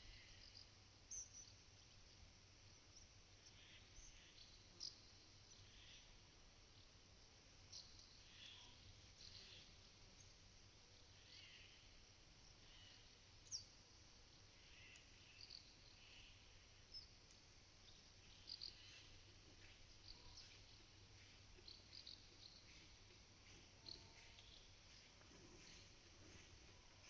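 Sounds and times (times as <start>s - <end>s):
small birds chirping: 0.0s - 7.0s, 7.6s - 27.0s
low background noise: 0.0s - 27.0s.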